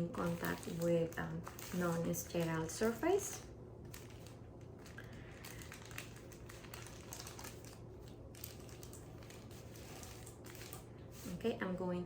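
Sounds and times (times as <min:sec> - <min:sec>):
paper wrapper crinkling: 0:00.0 - 0:11.4.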